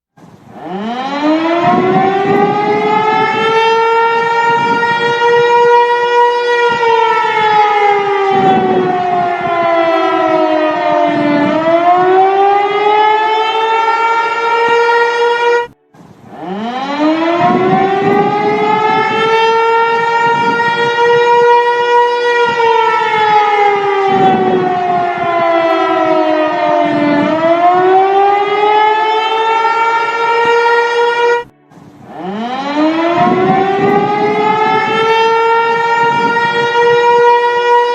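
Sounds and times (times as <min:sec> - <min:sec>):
warning siren wailing: 0:00.2 - 0:37.9.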